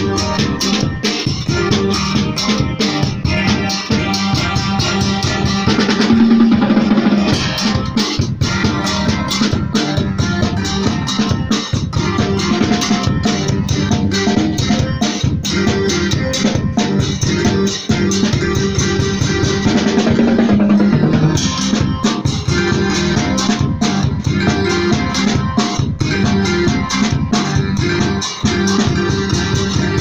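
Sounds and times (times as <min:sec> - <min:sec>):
bass line: 0:00.0 - 0:30.0
drum rhythm: 0:00.0 - 0:30.0
keyboard chords: 0:00.0 - 0:30.0.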